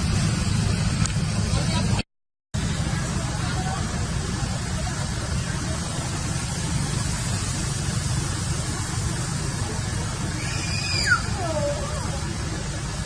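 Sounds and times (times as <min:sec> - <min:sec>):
steady rumbling noise: 0:00.0 - 0:02.0, 0:02.6 - 0:13.0.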